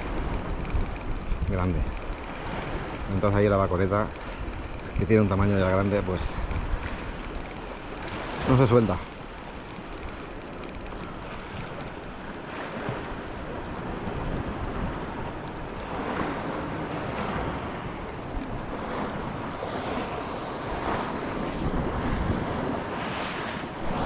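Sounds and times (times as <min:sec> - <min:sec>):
wind buffeting microphone: 0:00.0 - 0:10.1, 0:10.7 - 0:24.0
sea waves washing: 0:00.0 - 0:24.0.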